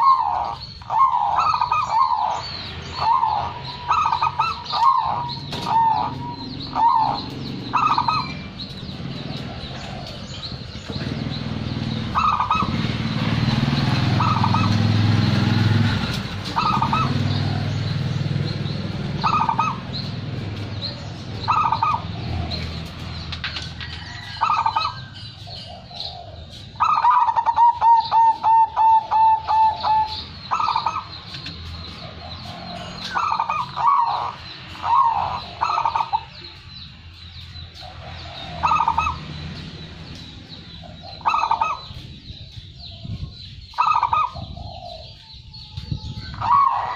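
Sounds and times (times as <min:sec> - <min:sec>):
dove cooing: 0:00.0 - 0:36.5, 0:37.8 - 0:39.4, 0:40.7 - 0:45.3, 0:46.2 - 0:46.9
rapid bird notes: 0:00.0 - 0:45.5.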